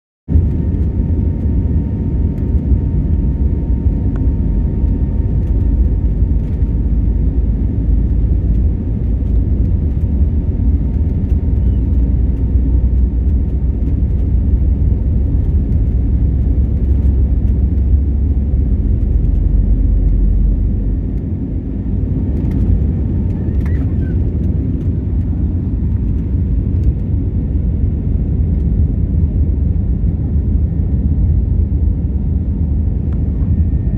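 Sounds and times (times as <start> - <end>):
aeroplane engines rumbling: 0.3 - 33.9.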